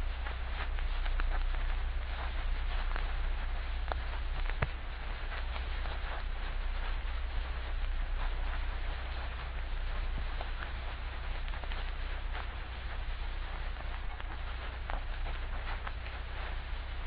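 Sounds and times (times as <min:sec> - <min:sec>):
film crackle and hiss: 0:00.0 - 0:17.0
low hum: 0:00.0 - 0:17.0
pops and clicks: 0:00.0 - 0:17.0.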